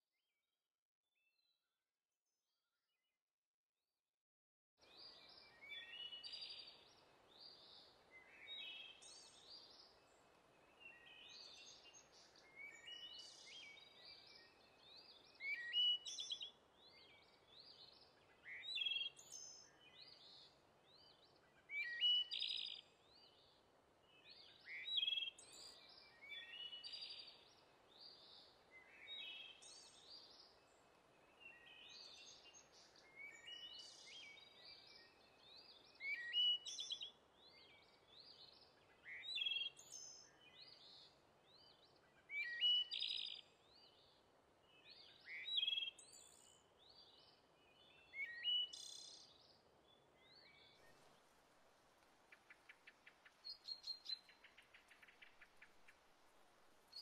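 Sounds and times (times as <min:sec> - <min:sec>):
small birds chirping and trilling: 0:04.8 - 0:51.4, 0:52.2 - 0:56.1
faint steady hiss: 0:04.8 - 0:57.0.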